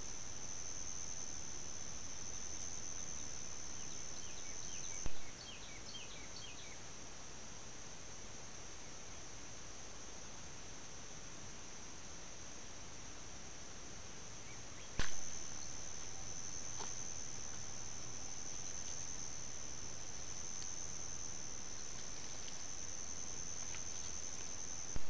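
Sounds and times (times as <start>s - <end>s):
insects droning: 0.0s - 25.0s
microphone hiss: 0.0s - 25.0s.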